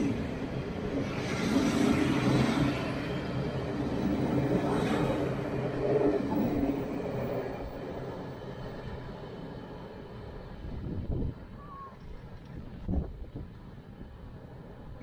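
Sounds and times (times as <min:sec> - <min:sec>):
diesel train engine hum: 0:00.0 - 0:15.0
wheel and rail noise: 0:00.0 - 0:15.0.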